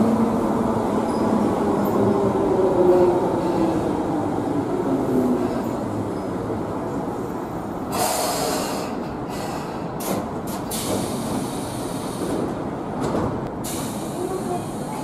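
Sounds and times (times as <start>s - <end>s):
train running on rails: 0.0s - 15.0s.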